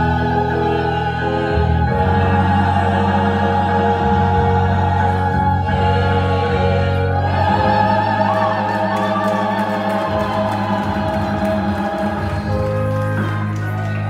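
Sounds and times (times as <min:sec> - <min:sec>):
low accompaniment: 0:00.0 - 0:14.0
women singing together: 0:00.0 - 0:14.0.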